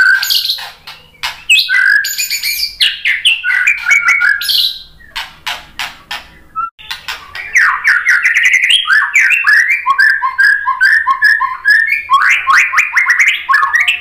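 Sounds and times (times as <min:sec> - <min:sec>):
bird singing whistled notes: 0:00.0 - 0:05.2, 0:06.4 - 0:14.0.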